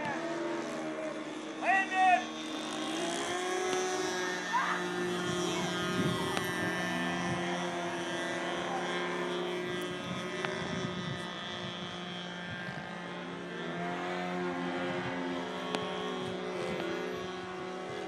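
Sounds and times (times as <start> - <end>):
model airplane engine droning: 0.0 - 18.0.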